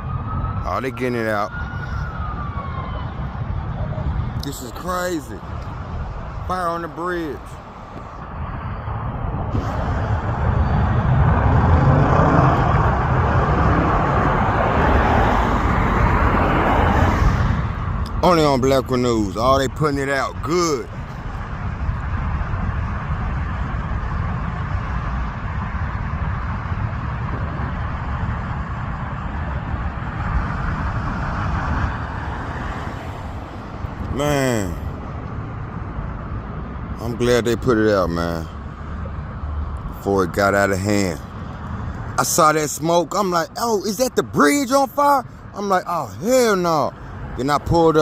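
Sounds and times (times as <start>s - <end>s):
road vehicle rumbling roar: 0.0s - 48.0s.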